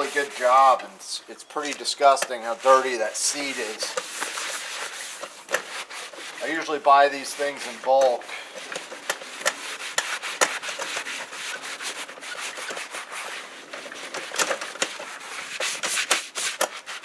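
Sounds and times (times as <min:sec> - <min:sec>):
scouring pad scrubbing: 0:00.0 - 0:00.8, 0:02.0 - 0:07.9, 0:08.6 - 0:17.0.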